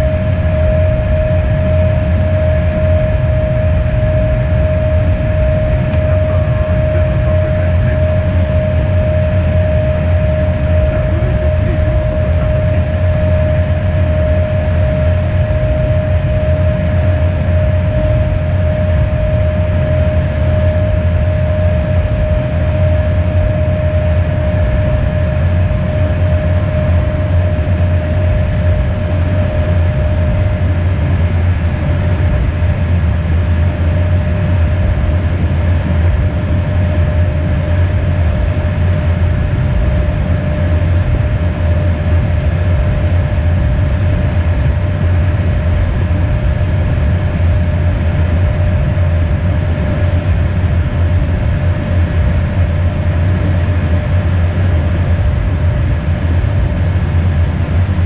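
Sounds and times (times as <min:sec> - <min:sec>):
jet cockpit rumble: 0:00.0 - 0:58.0
mid-pitched engine whine: 0:00.0 - 0:58.0.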